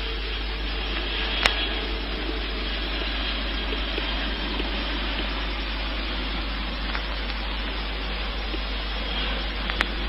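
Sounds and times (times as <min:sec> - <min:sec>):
jet engine rush: 0:00.0 - 0:10.0.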